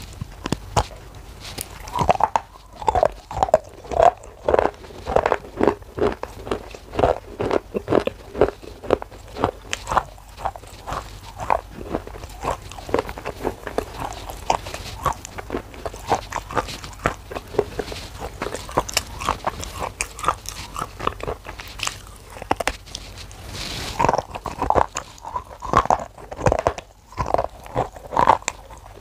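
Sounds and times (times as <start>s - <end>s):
crunching and chewing clay: 0.0s - 29.0s.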